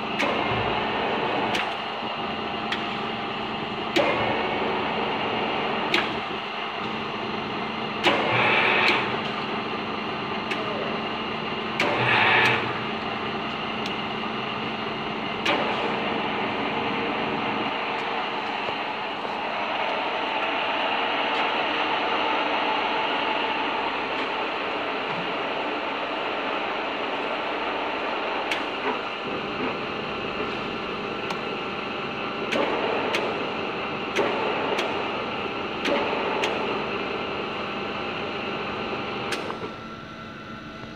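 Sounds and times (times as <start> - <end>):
milling machine humming: 0.0 - 40.9.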